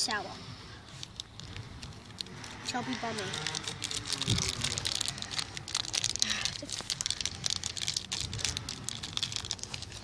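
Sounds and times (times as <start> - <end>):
plastic packet crinkling: 0.9 - 10.0.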